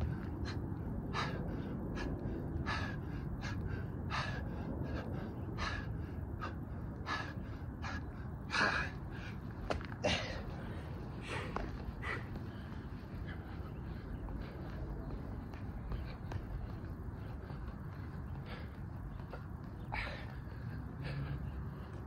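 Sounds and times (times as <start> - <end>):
man breathing hard: 0.0 - 22.0.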